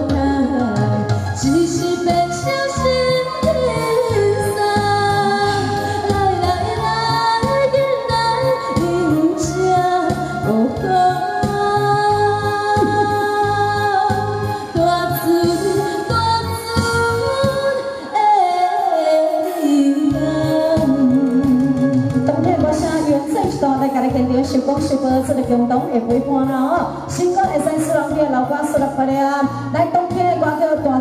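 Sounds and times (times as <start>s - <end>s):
music accompaniment with steady beat: 0.0s - 31.0s
woman singing into a microphone: 0.0s - 31.0s.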